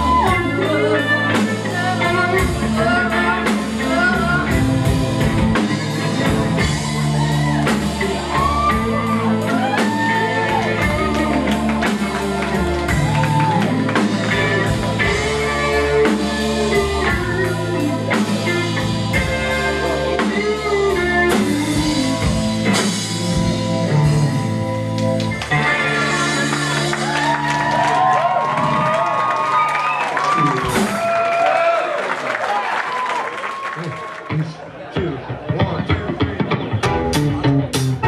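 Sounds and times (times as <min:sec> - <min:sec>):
electric guitar: 0:00.0 - 0:31.3, 0:35.4 - 0:38.0
drum kit beat: 0:00.0 - 0:31.5, 0:35.0 - 0:38.0.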